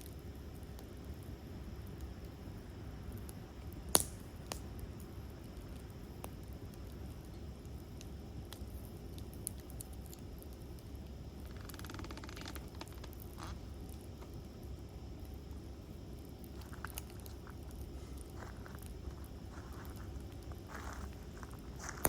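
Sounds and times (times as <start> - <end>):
campfire crackling and popping: 0.0 - 22.0
low fire rumble: 0.0 - 22.0.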